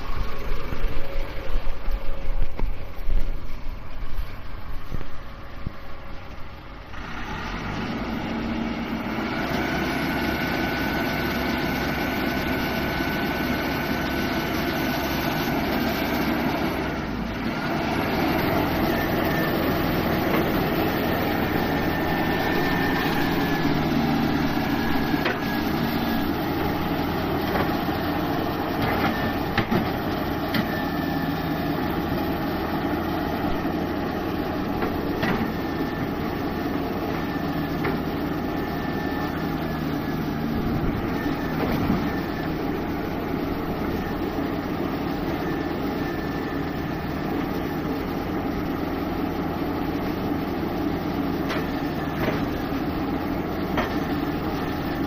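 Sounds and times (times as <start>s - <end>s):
diesel engine running under load: 0.0s - 55.0s
hydraulic whine: 0.0s - 55.0s.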